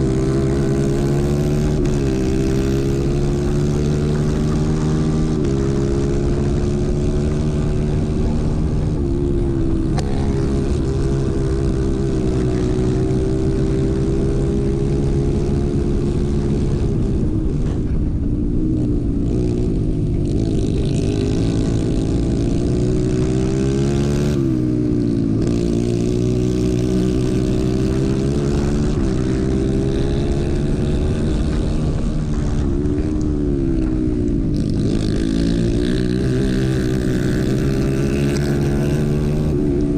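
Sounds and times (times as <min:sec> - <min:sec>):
go-kart engine at high revs: 0:00.0 - 0:39.9.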